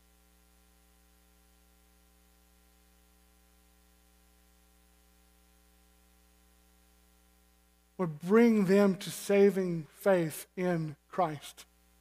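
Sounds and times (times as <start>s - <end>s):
faint electrical hum with hiss: 0.0s - 12.0s.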